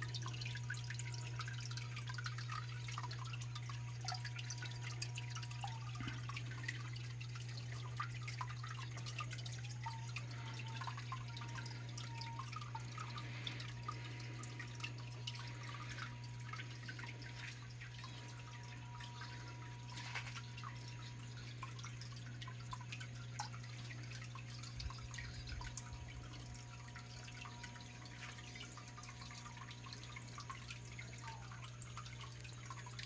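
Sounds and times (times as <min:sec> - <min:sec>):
steady low hum: 0:00.0 - 0:33.0
water trickling and splashing: 0:00.0 - 0:33.0.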